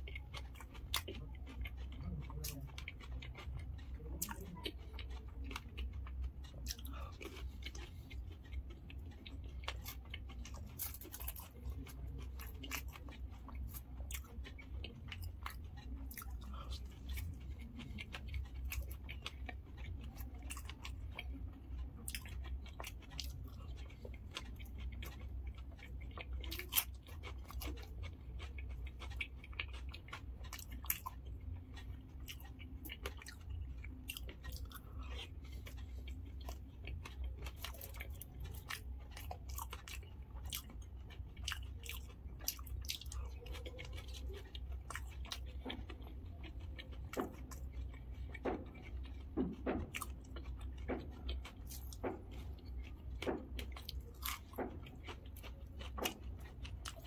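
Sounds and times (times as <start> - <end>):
chewing crunchy snack: 0.0 - 57.0.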